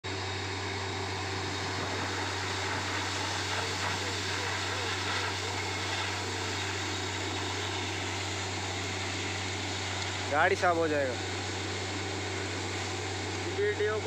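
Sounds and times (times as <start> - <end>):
engine and compressor hum: 0.0 - 14.0
compressed air rushing hiss: 1.4 - 13.6.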